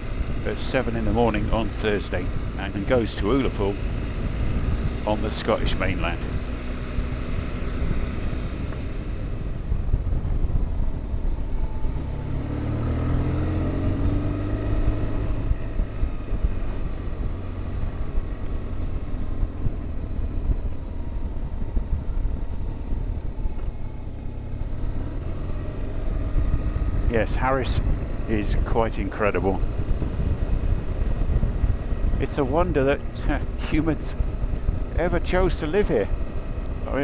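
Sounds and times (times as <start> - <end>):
motorcycle engine running: 0.0 - 37.0
rush of wind noise: 0.0 - 37.0.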